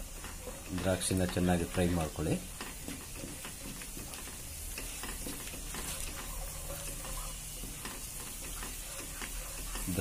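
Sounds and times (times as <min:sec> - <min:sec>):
nuts sizzling in hot oil: 0:00.0 - 0:10.0
spatula scraping and tapping pan: 0:00.0 - 0:10.0.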